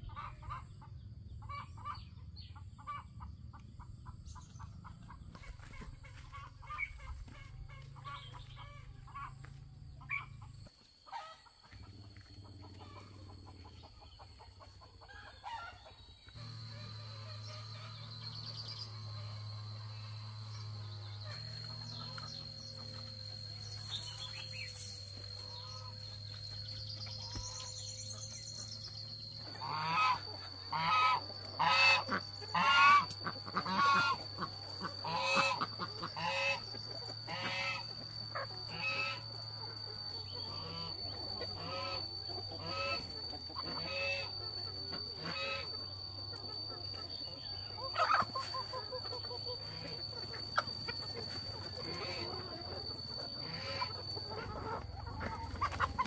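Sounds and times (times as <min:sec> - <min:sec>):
high-pitched whine: 0:00.0 - 0:56.0
poultry calling: 0:00.0 - 0:56.0.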